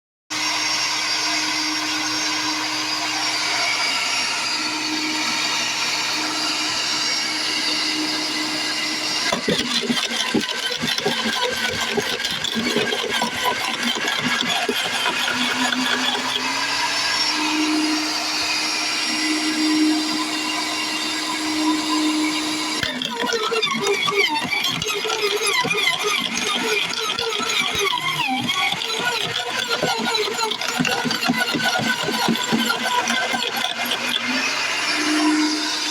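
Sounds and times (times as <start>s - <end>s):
wood chipper motor running: 0.3s - 24.8s, 25.4s - 35.9s.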